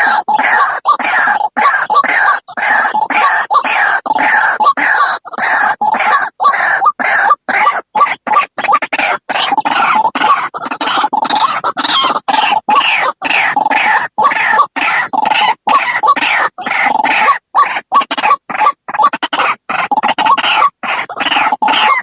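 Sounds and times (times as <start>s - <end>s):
waterhen calling with harsh croaks: 0.0s - 22.0s.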